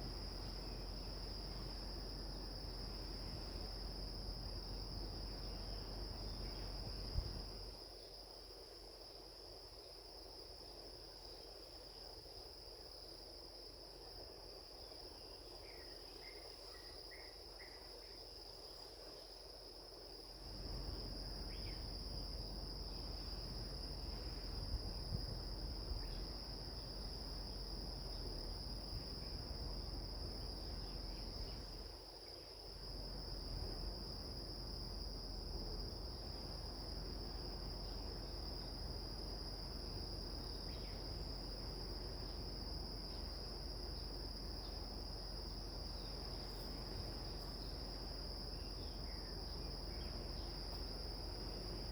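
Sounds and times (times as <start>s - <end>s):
insect chorus: 0.0s - 51.9s.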